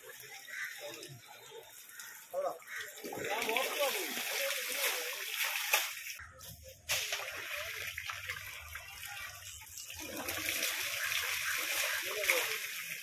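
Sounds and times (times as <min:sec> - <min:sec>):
water gushing and splashing: 0:00.0 - 0:06.2, 0:06.9 - 0:13.0.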